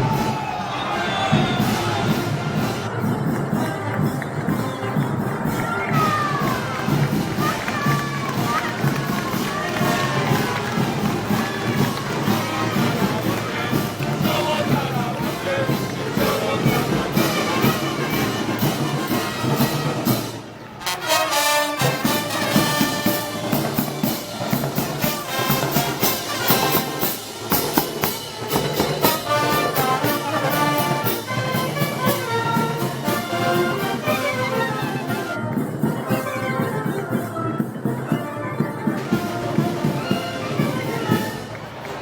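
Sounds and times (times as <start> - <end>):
brass band playing a march: 0.0 - 42.0.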